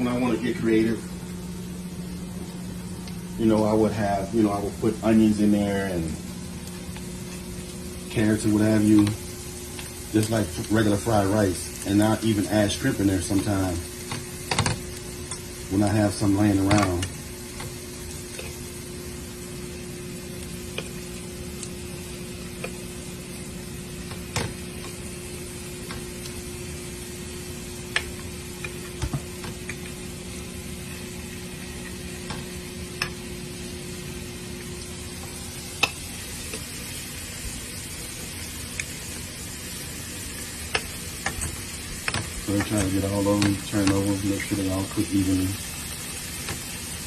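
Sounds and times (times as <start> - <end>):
chicken sizzling in a frying pan: 0.0 - 47.0.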